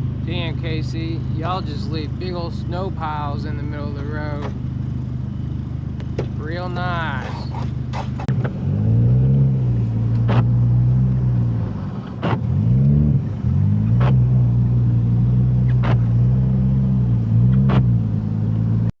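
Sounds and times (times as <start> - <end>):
car engine running: 0.0 - 18.9.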